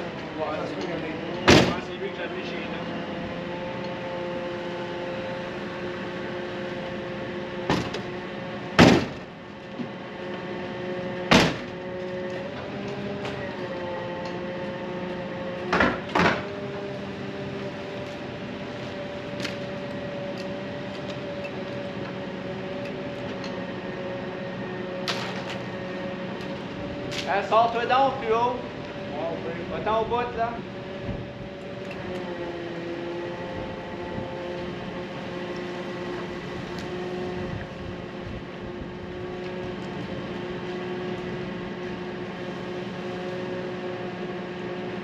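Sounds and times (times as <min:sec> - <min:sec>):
steady machine hum: 0:00.0 - 0:45.0.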